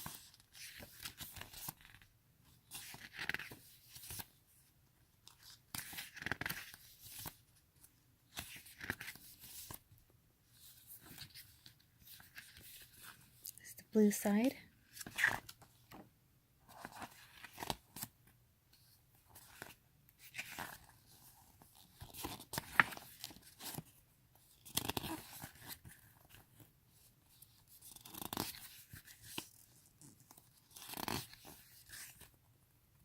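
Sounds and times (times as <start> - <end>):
photo book pages turning: 0.0 - 4.4, 5.2 - 9.9, 10.5 - 13.5, 14.8 - 18.2, 18.8 - 32.4.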